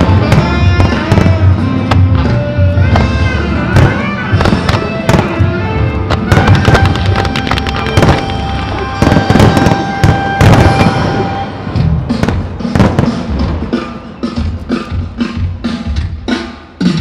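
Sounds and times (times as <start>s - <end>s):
fireworks bursting: 0.0s - 14.2s
music playing: 0.0s - 17.0s.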